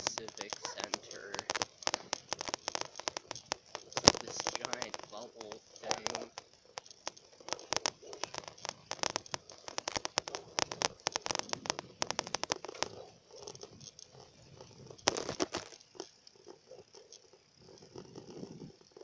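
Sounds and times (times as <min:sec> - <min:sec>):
bicycle clicking and rattling: 0:00.0 - 0:19.0.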